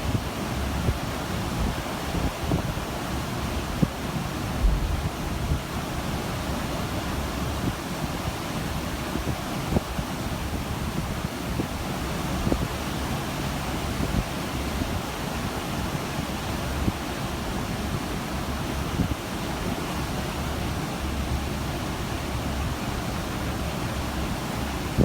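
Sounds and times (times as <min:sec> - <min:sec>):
rushing sea water: 0:00.0 - 0:25.0.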